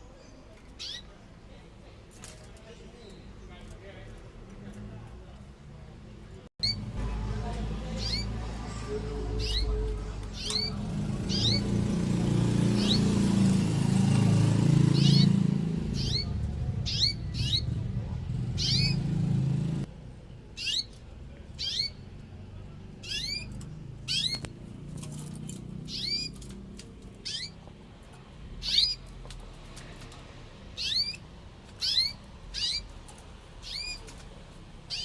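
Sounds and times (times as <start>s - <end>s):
birds chirping: 0.0s - 1.7s, 2.5s - 4.4s, 6.6s - 35.0s.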